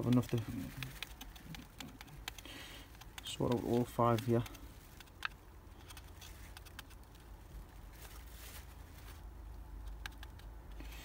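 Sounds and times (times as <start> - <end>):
paper seed packet ticking: 0.0 - 8.1, 9.0 - 11.0.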